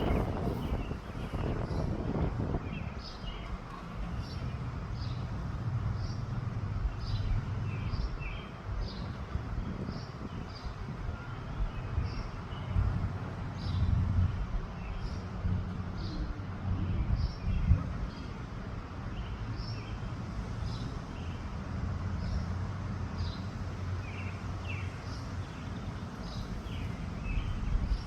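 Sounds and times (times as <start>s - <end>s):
wind buffeting the microphone: 0.0s - 28.0s.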